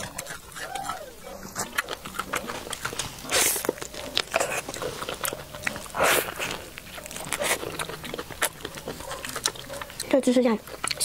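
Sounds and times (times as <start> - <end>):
chewing: 0.0 - 11.0
crunching bites of fried chicken: 0.0 - 11.0.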